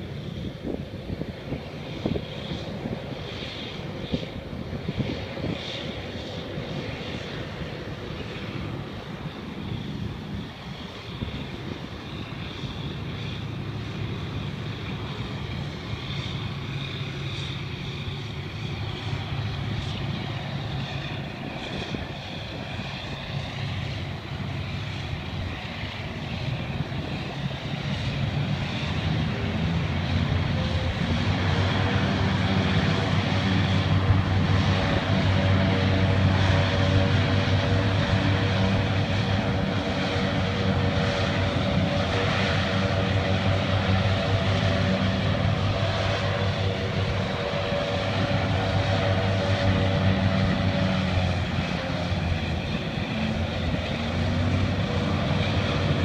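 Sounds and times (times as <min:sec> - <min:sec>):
hovercraft engines droning: 0:00.0 - 0:56.0.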